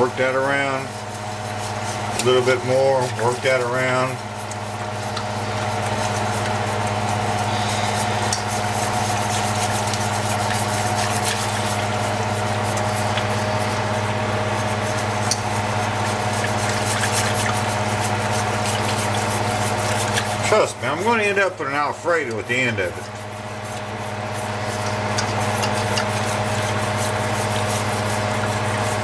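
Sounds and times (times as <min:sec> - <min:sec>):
steady mechanical hum: 0:00.0 - 0:29.0
whisk in skillet: 0:00.0 - 0:29.0.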